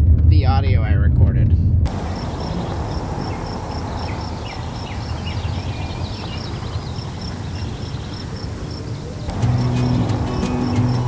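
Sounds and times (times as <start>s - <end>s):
distant car on gravel road: 1.9s - 11.0s
insect chirping: 1.9s - 11.0s.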